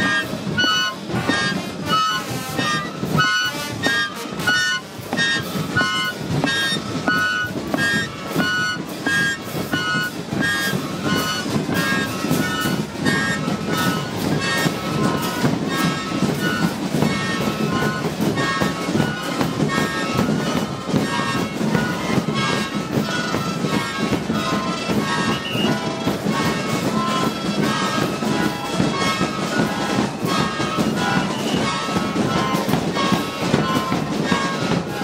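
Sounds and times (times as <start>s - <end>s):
drum beating: 0.0s - 35.0s
shrill rasping flute blasts: 0.0s - 35.0s.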